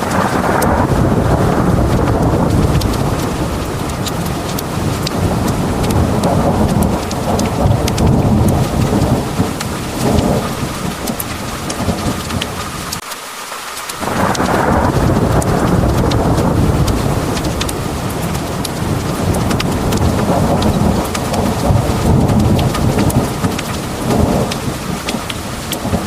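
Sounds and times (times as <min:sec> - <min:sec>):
rolling thunder rumble: 0:00.0 - 0:13.0, 0:14.0 - 0:26.0
heavy rain pouring: 0:00.0 - 0:26.0
drops ticking on hard surfaces: 0:01.9 - 0:12.6, 0:15.2 - 0:26.0.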